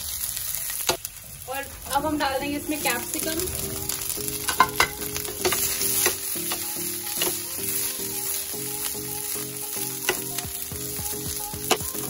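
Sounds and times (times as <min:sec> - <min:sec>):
vegetables sizzling in a frying pan: 0:00.0 - 0:12.0
simple background music melody: 0:02.0 - 0:12.0.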